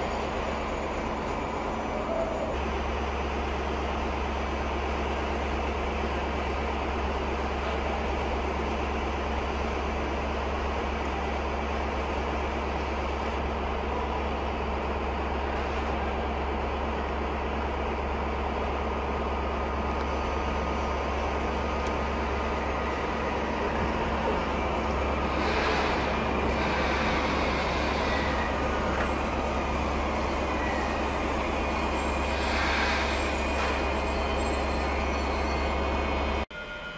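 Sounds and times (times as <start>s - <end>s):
idling train hum and hiss: 0.0s - 36.9s.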